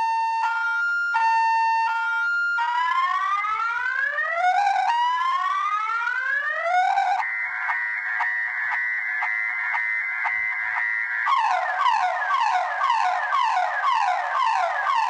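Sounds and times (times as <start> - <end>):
car alarm siren: 0.0 - 15.0.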